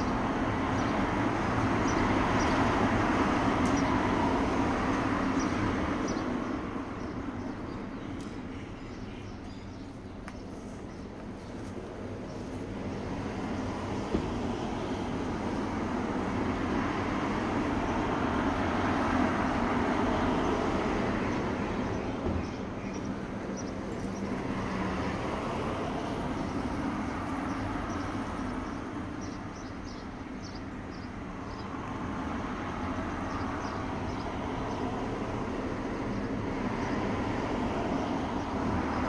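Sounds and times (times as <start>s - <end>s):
passing vehicle road noise: 0.0s - 8.5s, 10.8s - 30.0s, 31.2s - 39.0s.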